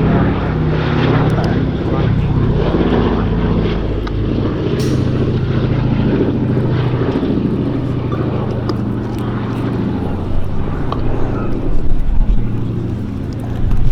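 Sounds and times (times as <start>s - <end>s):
propeller aircraft engines droning: 0.0s - 13.9s.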